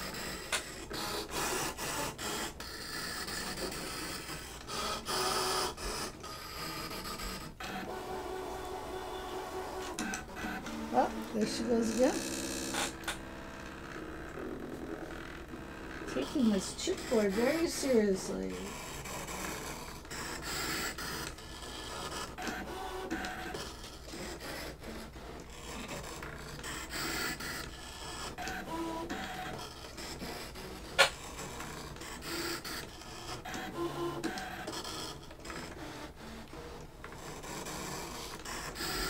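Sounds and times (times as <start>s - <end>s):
cutting machine motors whirring: 0.0s - 39.0s.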